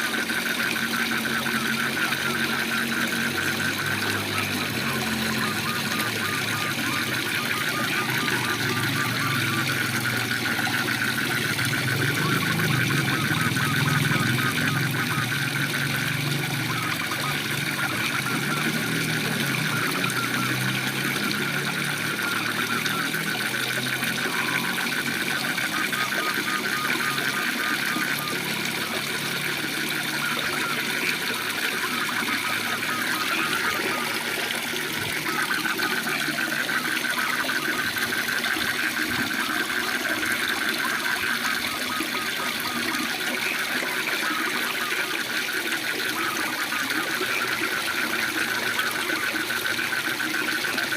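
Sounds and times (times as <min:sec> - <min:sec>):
frogs calling in chorus: 0:00.0 - 0:50.9
waterfall running: 0:00.0 - 0:50.9.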